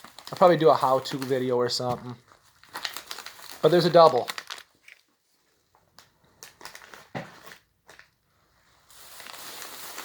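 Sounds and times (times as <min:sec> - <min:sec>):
plastic packaging crinkling: 0:00.0 - 0:08.2, 0:08.8 - 0:10.0.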